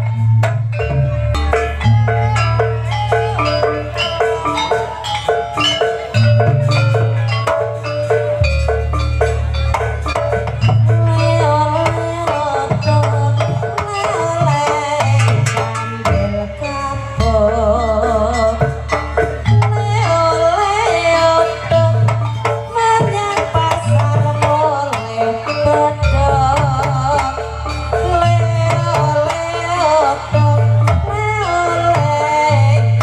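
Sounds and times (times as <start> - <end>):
hand drums beating: 0.0 - 33.0
wavering melody: 0.0 - 33.0.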